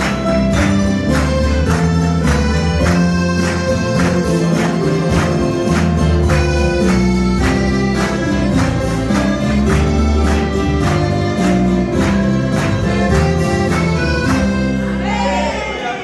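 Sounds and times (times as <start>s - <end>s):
accordion: 0.0s - 15.8s
mandolins and guitars strumming: 0.0s - 15.8s.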